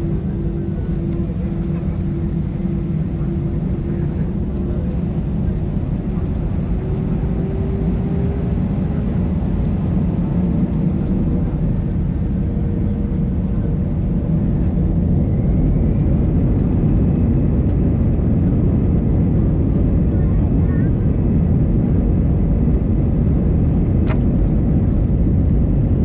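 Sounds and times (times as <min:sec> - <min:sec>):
airliner engine rumble: 0:00.0 - 0:26.0
faint engine whine: 0:00.0 - 0:26.0.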